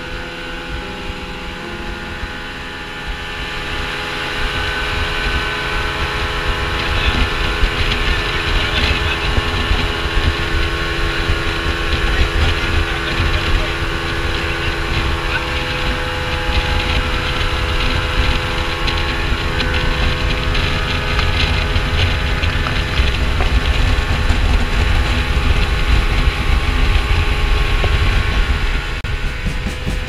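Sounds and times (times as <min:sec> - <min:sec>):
outboard motors droning: 0:00.0 - 0:30.0
rush of wind and water: 0:00.0 - 0:30.0.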